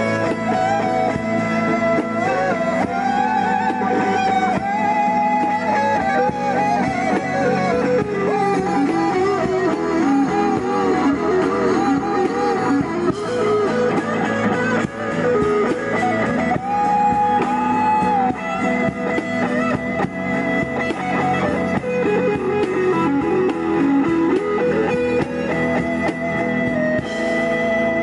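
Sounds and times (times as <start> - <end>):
guitars strumming chords: 0.0 - 28.0
sliding lead guitar melody: 0.0 - 28.0.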